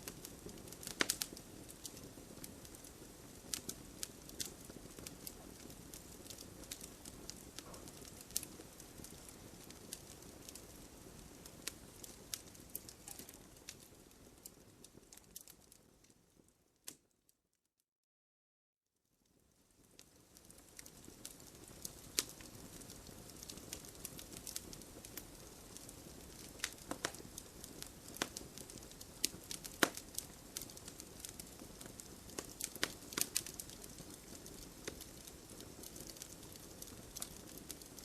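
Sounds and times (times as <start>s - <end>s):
campfire crackling and popping: 0.0s - 16.2s, 19.7s - 38.0s.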